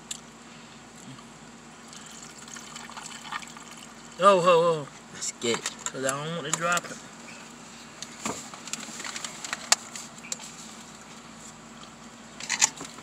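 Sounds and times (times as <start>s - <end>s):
low hum inside car: 0.0s - 13.0s.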